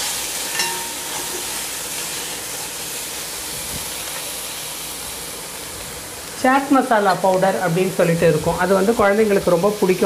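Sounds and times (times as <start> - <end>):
chickpeas sizzling in hot oil: 0.0 - 10.0.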